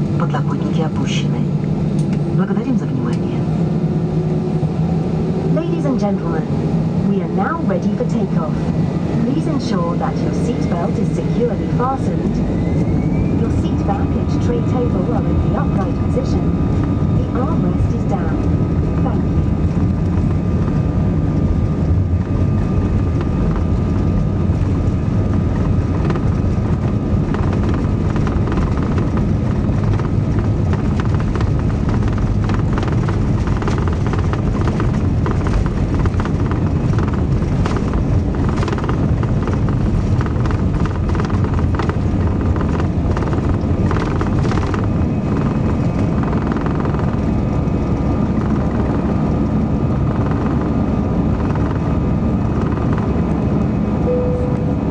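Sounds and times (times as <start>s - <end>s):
faint engine whine: 0.0s - 54.9s
jet engines rumbling: 0.0s - 54.9s.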